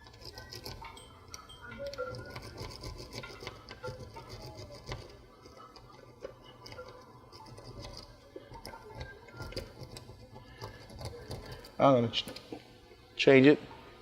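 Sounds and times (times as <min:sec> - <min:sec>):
lock pick scraping and clicking: 0:00.0 - 0:12.5.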